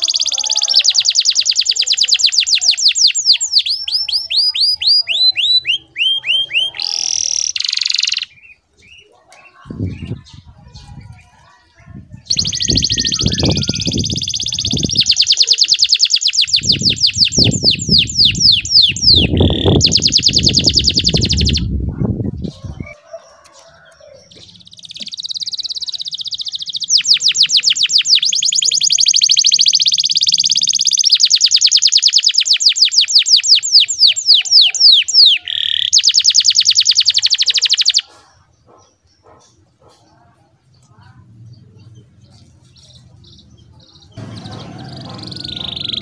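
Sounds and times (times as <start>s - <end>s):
canary singing trills: 0.0s - 46.0s.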